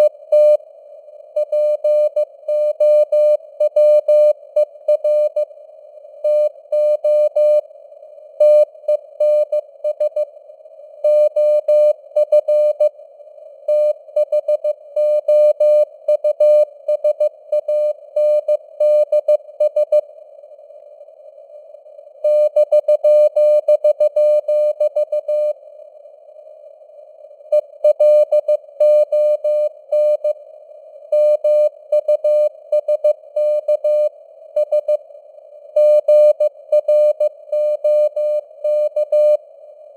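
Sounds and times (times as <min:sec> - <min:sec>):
faint radio static: 0:00.0 - 0:39.9.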